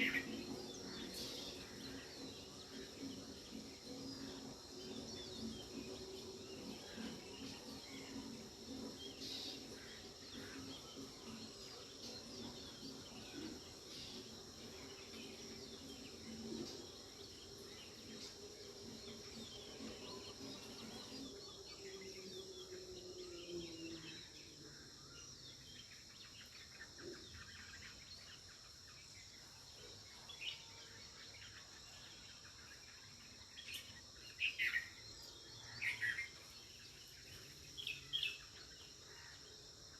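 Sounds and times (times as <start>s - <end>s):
birds chirping: 0.0s - 39.9s
high insect drone: 0.0s - 39.9s.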